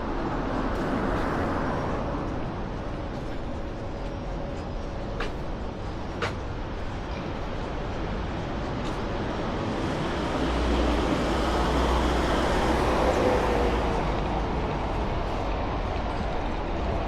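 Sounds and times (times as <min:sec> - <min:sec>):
steady traffic rumble: 0:00.0 - 0:17.0.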